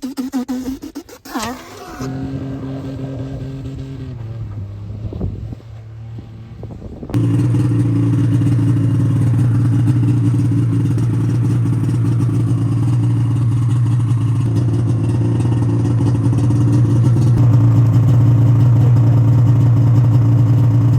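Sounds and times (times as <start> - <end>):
car engine running: 1.2 - 20.9.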